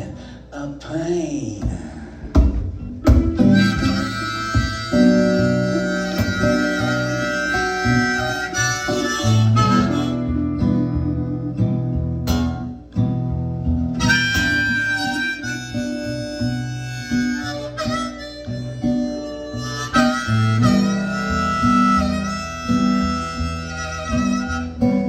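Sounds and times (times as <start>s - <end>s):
acoustic guitar accompaniment: 1.6s - 25.0s
harmonica playing held notes: 3.0s - 12.6s, 13.9s - 25.0s.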